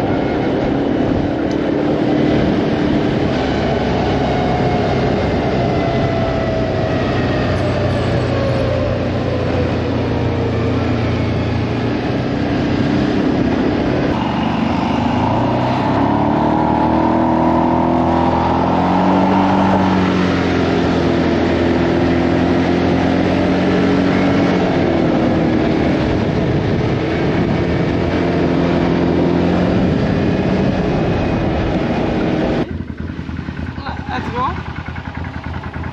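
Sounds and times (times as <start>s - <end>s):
vehicle engine revving: 0.0s - 35.9s.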